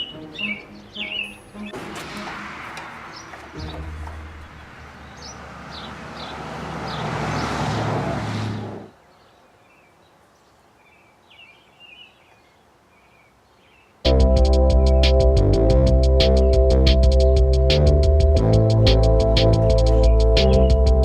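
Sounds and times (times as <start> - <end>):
birds chirping: 0.0 - 15.3, 15.9 - 21.0.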